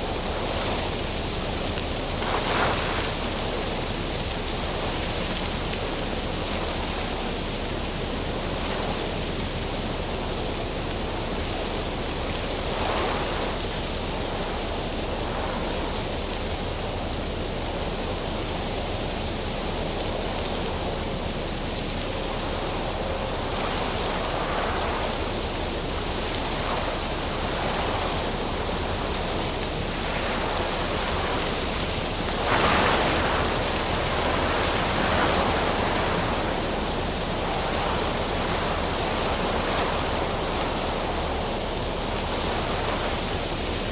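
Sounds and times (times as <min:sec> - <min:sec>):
branches and leaves rustling: 0:00.0 - 0:43.9.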